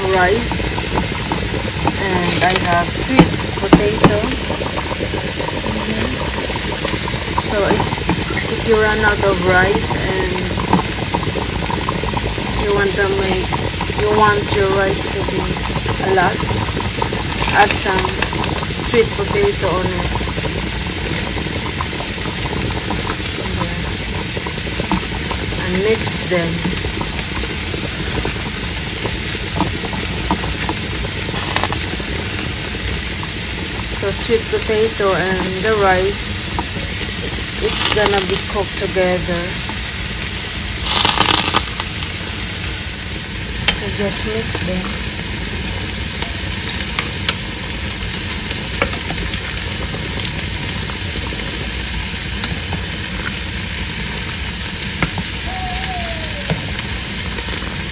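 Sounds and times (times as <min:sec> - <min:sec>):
pot boiling with bubbling hiss: 0:00.0 - 0:57.9.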